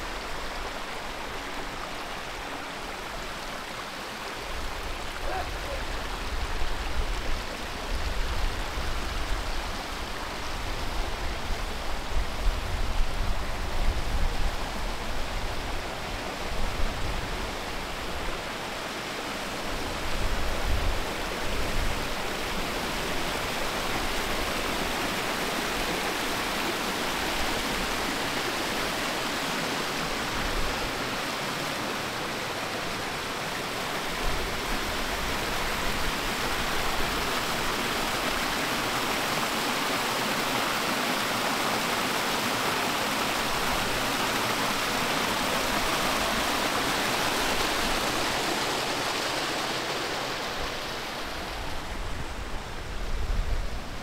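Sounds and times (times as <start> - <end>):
brook tumbling over small waterfalls: 0.0 - 54.0.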